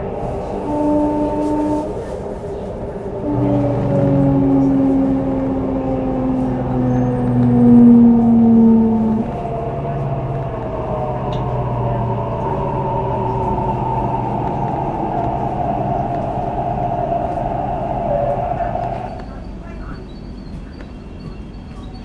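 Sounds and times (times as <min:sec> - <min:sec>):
low drone: 0:00.0 - 0:19.8
train traction motors whining: 0:00.0 - 0:22.0.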